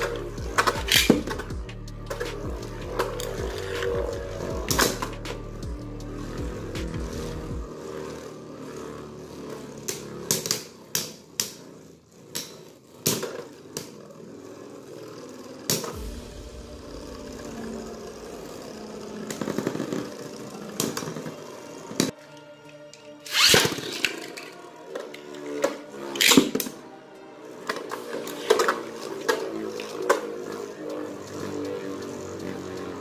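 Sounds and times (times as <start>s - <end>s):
spinning tops whirring: 0.0s - 33.0s.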